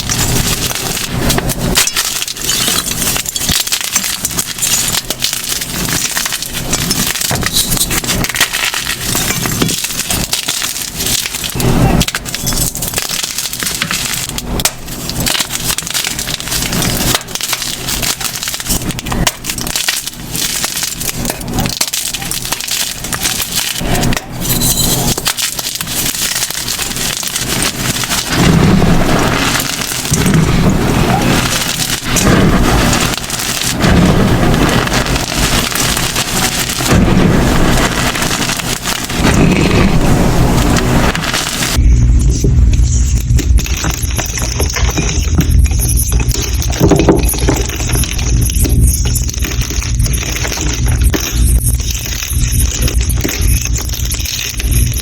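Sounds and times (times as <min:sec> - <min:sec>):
chalk crackling and crunching: 0:00.0 - 0:55.0.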